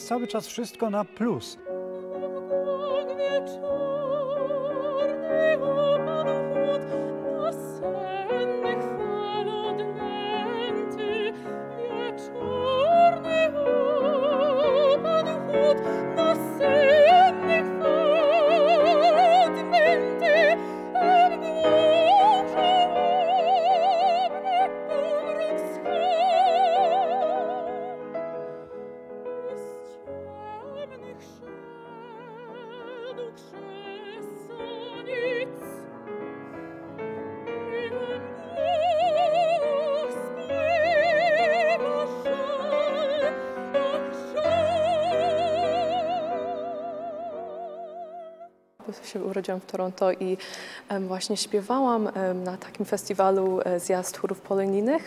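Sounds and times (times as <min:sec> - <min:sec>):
grand piano: 0:00.0 - 0:55.0
woman singing opera: 0:01.6 - 0:28.6, 0:29.2 - 0:36.0, 0:36.9 - 0:55.0.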